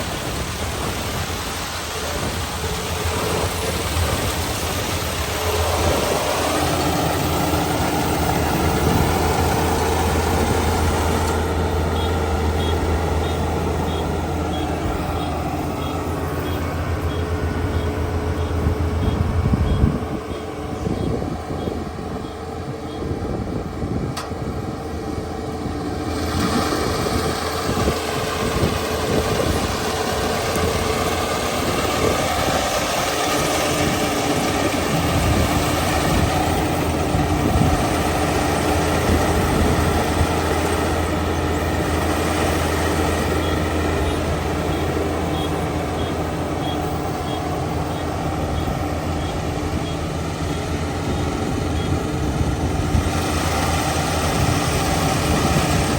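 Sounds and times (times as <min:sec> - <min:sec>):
combine harvester diesel engine: 0:00.0 - 0:55.9.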